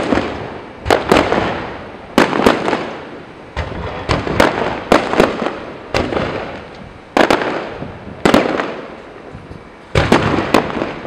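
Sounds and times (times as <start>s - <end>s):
fireworks bursting with echoing bangs: 0.0s - 11.0s.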